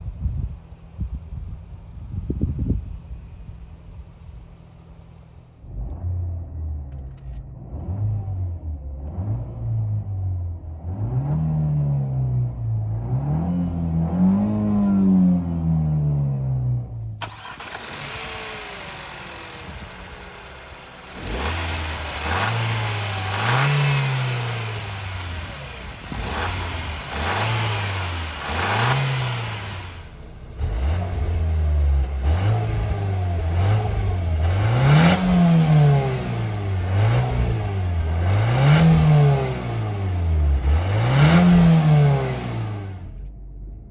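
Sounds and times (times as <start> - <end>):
car engine revving in blips: 5.0 - 43.4.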